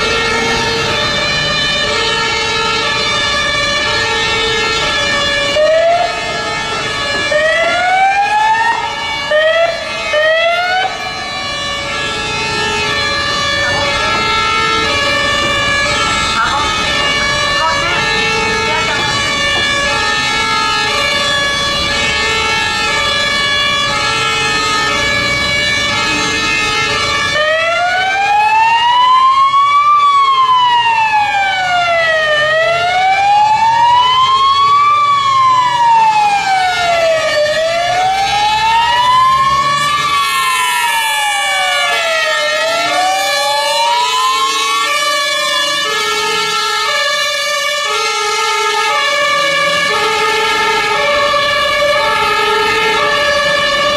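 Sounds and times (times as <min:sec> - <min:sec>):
two-tone siren: 0:00.0 - 0:53.9
wailing siren: 0:00.0 - 0:53.9.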